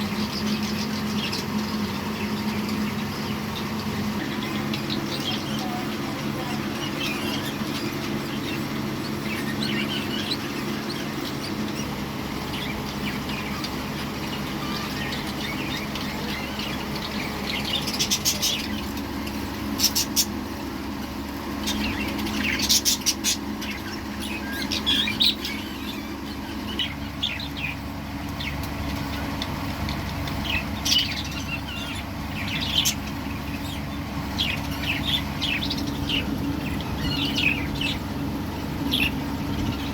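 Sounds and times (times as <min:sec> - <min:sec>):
budgerigars chirping: 0:00.0 - 0:20.9, 0:21.5 - 0:39.9
sharp loud bird calls: 0:00.0 - 0:39.9.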